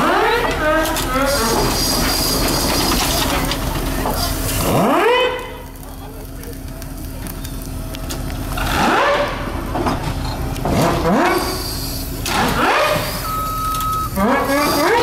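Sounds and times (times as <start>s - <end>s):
steam traction engine rumbling: 0.0s - 15.0s.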